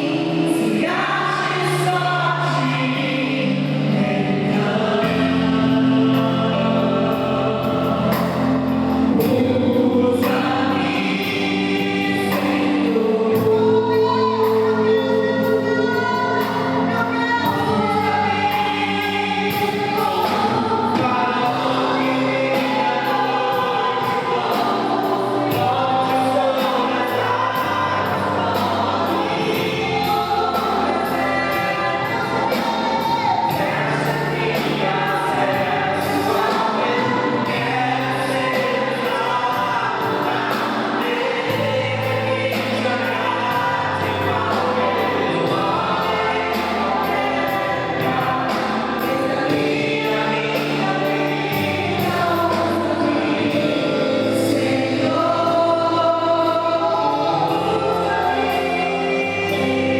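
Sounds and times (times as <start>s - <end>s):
group singing a hymn: 0.0s - 59.9s
instrumental accompaniment: 0.0s - 59.9s.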